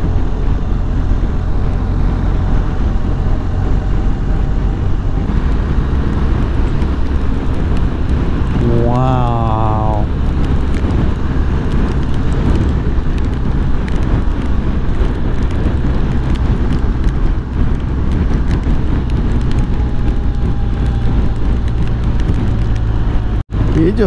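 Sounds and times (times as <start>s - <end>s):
motorcycle engine cruising: 0.0s - 24.0s
wind and road noise: 0.0s - 24.0s.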